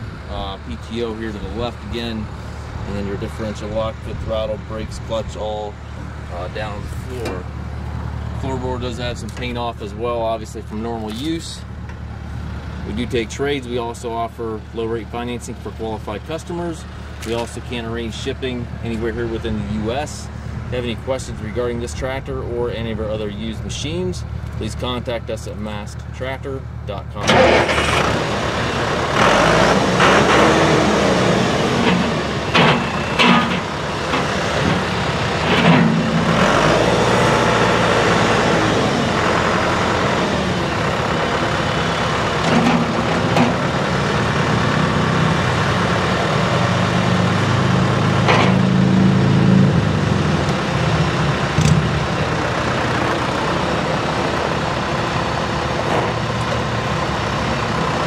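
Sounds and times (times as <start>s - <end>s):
tires on gravel: 0.0s - 58.0s
tractor diesel engine running: 0.0s - 58.0s.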